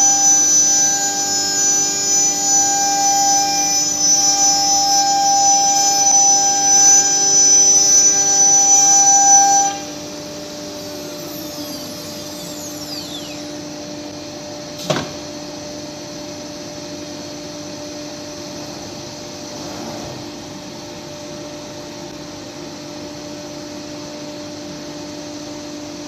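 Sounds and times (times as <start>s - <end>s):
cnc router whining: 0.0s - 26.0s.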